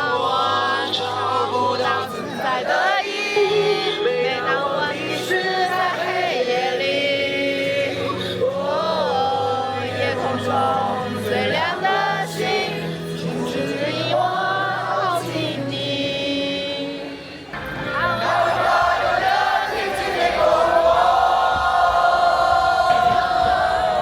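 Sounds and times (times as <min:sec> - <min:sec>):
low musical accompaniment: 0:00.0 - 0:24.0
several voices singing together: 0:00.0 - 0:24.0.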